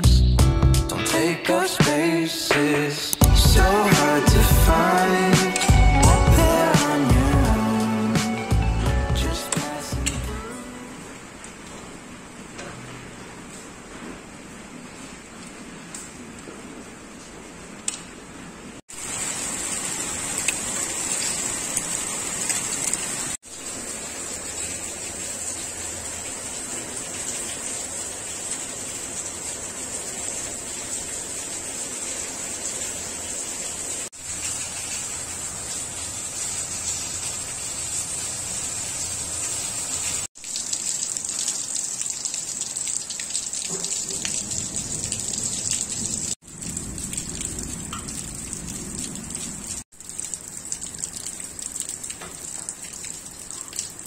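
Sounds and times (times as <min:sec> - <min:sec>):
heavy rain falling: 0:03.2 - 0:17.2, 0:18.9 - 0:54.0.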